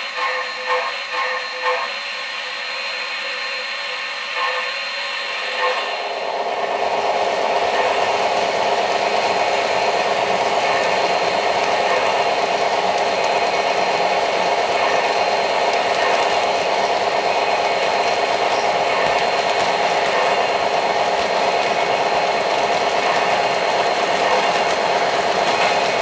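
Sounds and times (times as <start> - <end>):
model train whirring rumble: 0.0 - 26.0.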